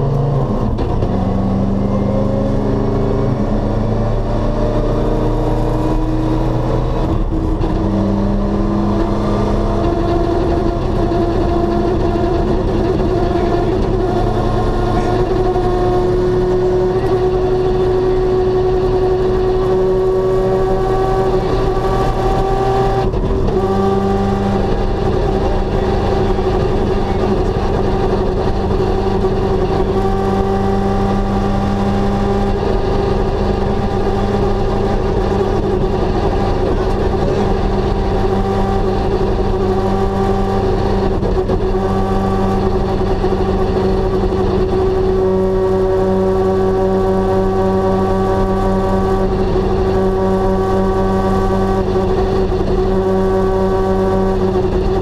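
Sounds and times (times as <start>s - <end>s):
car engine from inside cabin: 0.0s - 55.0s.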